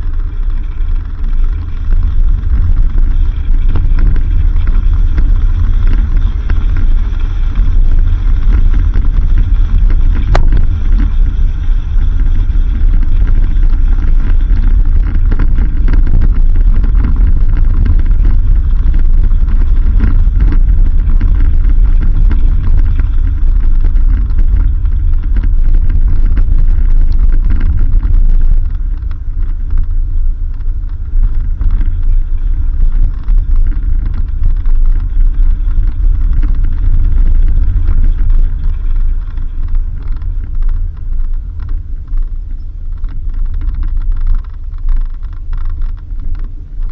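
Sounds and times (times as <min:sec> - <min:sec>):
vehicle driving on dirt road: 0:00.0 - 0:46.9.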